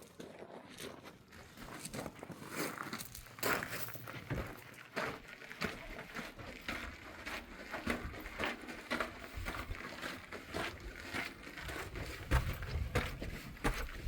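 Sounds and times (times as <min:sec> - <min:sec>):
footsteps crunching on loose ground: 0:00.0 - 0:14.0.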